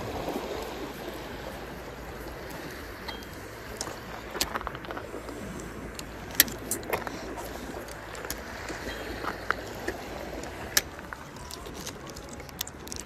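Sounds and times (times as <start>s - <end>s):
small waves washing against rocks: 0.0s - 13.0s
wind on microphone: 0.0s - 13.0s.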